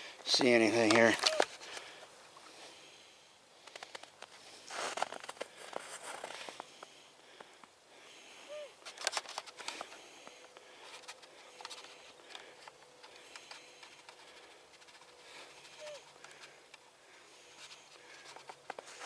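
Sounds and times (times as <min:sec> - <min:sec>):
twigs crackling: 0:00.2 - 0:03.0, 0:03.6 - 0:07.8, 0:08.6 - 0:19.0.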